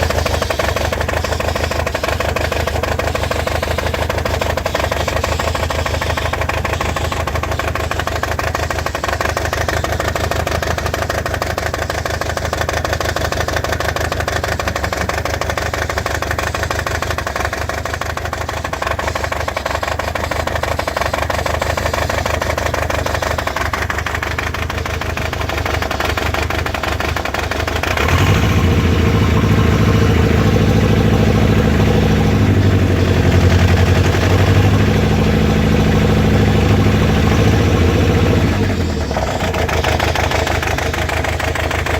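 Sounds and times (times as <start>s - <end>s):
misfiring car engine: 0.0s - 41.9s.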